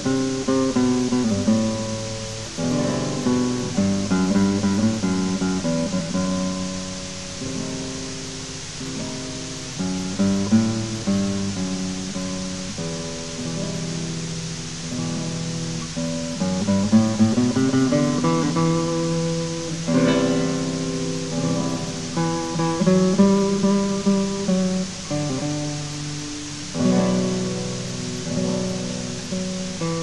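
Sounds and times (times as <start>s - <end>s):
guitar picked notes and chords: 0.0s - 30.0s
steady hiss: 0.0s - 30.0s.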